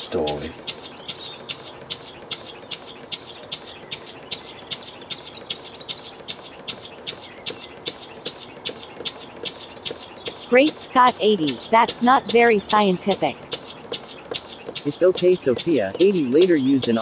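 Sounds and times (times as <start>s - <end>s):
model engine exhaust beats: 0.0s - 17.0s.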